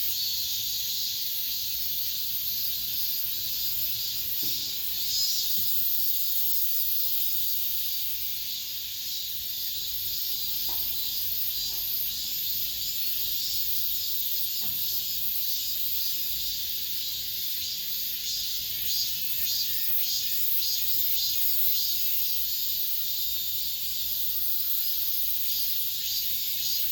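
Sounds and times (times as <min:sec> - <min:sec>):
cicadas buzzing: 0:00.0 - 0:26.9.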